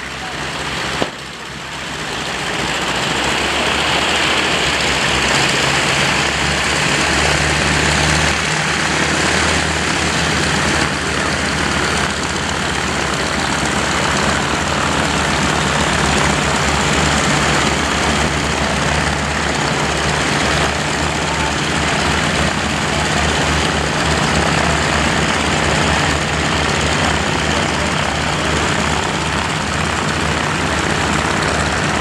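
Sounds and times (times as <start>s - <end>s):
propeller plane engine: 0.0s - 32.0s.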